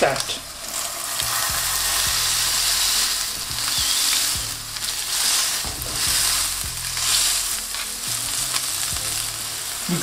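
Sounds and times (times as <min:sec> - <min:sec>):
meat sizzling in frying pan: 0:00.0 - 0:10.0.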